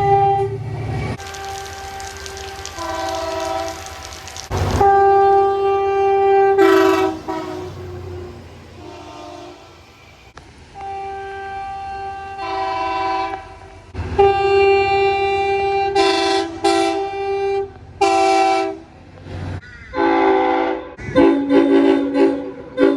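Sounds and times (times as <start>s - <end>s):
train horn chord blasts: 0.0s - 10.0s, 10.8s - 18.9s, 20.0s - 22.9s.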